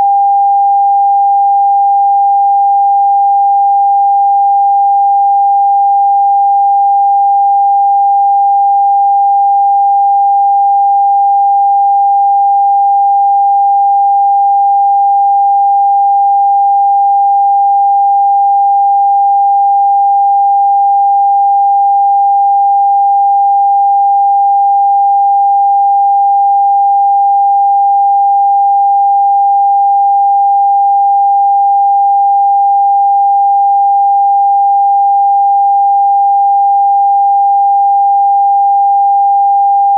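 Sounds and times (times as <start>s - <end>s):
steady sine tone: 0.0s - 36.4s.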